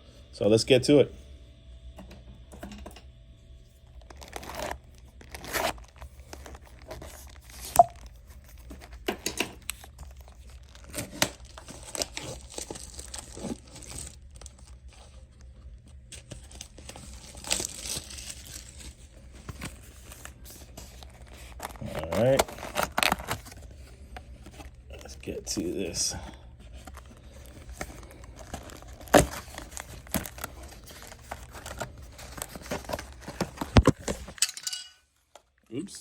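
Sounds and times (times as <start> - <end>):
plastic shrink wrap crinkling: 3.8 - 23.9, 24.5 - 34.4.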